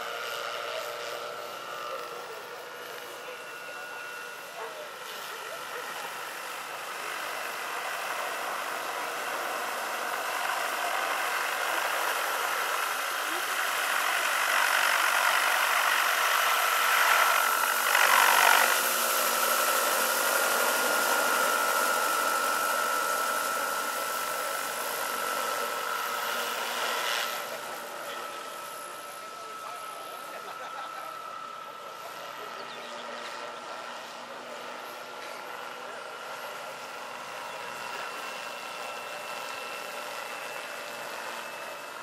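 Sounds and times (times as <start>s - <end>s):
helicopter rotor noise: 0.0s - 42.0s
model helicopter motor whine: 0.0s - 42.0s.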